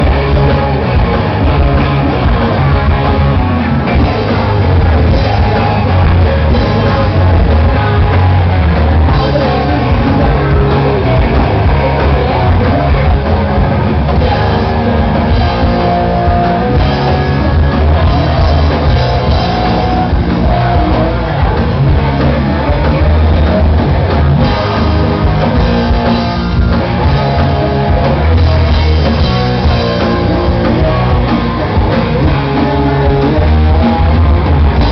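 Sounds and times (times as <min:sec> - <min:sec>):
bass: 0:00.0 - 0:34.9
drum kit: 0:00.0 - 0:34.9
electric guitars: 0:00.0 - 0:34.9
person singing: 0:00.0 - 0:34.9.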